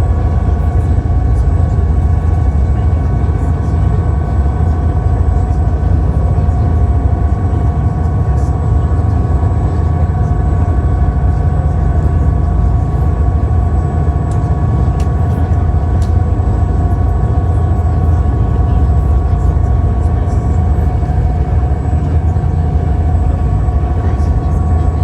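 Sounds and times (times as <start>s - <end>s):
low engine drone: 0.0s - 25.0s
steady humming tones: 0.0s - 25.0s.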